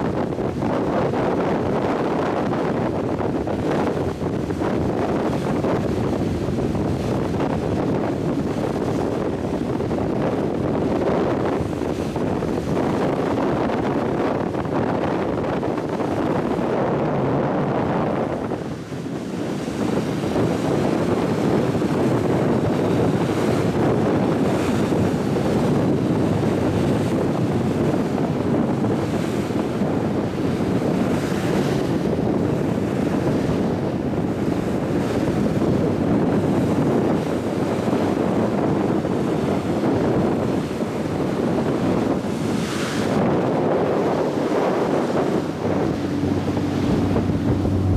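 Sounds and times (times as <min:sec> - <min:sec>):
rush of the sea: 0:00.0 - 0:47.9
wind buffeting microphone: 0:00.0 - 0:47.9.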